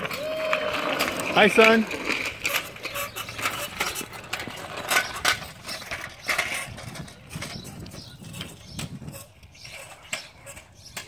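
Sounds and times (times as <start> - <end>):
tricycle rattling on concrete: 0.0 - 11.0.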